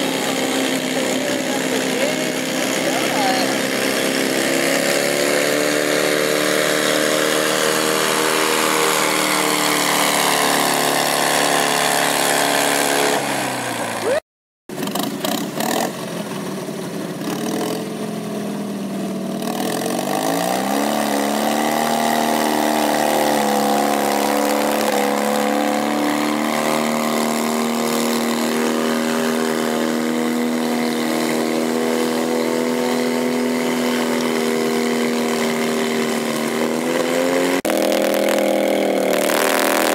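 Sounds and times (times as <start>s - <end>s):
engine revving up: 0.0s - 16.2s, 17.1s - 18.3s, 19.3s - 39.9s
tractor engine at high revs: 0.0s - 39.9s.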